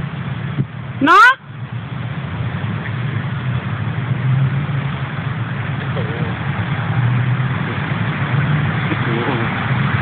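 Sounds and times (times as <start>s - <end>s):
motor traffic rumble: 0.0s - 10.0s.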